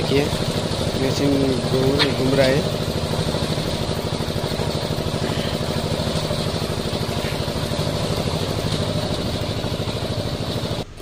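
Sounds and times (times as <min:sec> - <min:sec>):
concrete mixer engine throbbing: 0:00.0 - 0:11.0.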